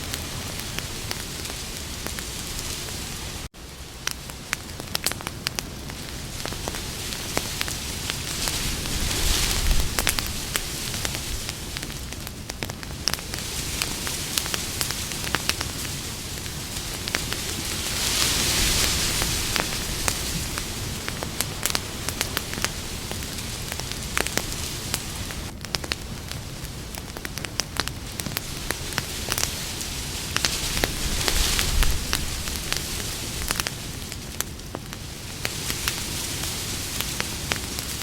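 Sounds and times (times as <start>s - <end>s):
campfire crackling and popping: 0.0s - 38.0s
hiss of burning: 0.0s - 38.0s.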